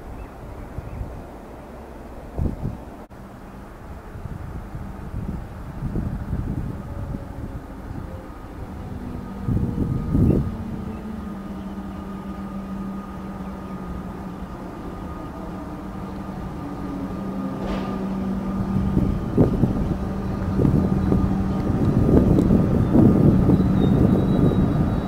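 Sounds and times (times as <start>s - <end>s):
electric train approaching: 0.0s - 25.0s.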